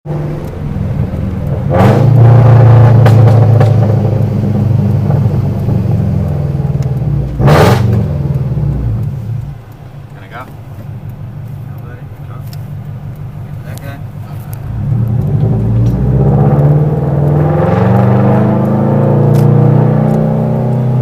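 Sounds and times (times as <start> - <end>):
exhaust crackles and pops: 0.1 - 21.0
loud car engine drone: 0.1 - 21.0.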